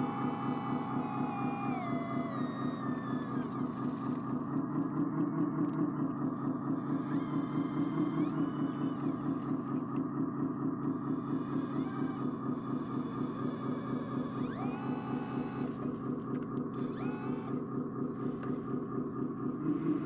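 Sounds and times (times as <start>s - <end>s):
electric motor whine: 0.0s - 20.0s
pulsing diesel engine sound: 0.0s - 20.0s.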